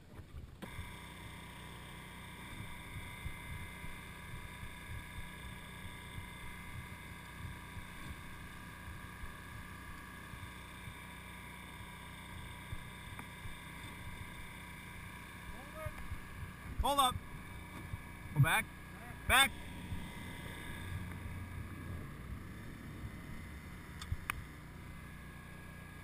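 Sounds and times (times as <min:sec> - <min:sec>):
motor and generator drone: 0:00.0 - 0:26.0
high whining tones: 0:02.3 - 0:26.0.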